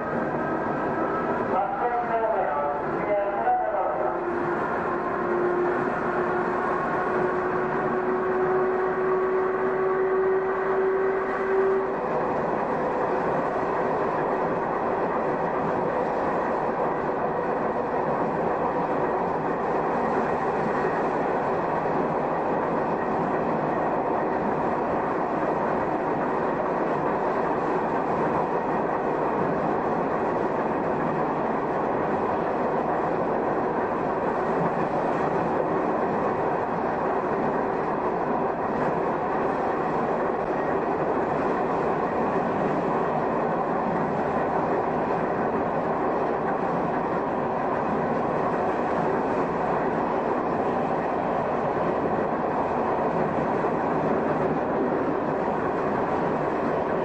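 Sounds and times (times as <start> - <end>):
train motor and gear noise: 0.0 - 57.0.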